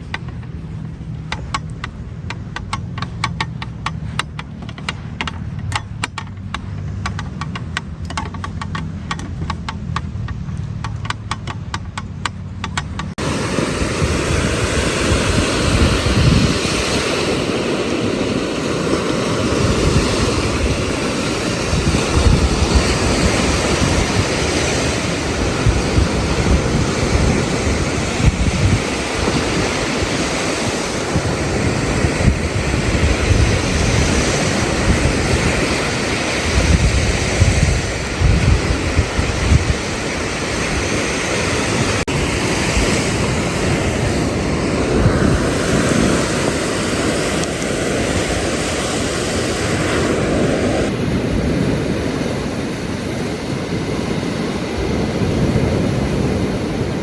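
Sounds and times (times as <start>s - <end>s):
ocean surf: 0.0s - 57.0s
wind buffeting microphone: 0.0s - 57.0s.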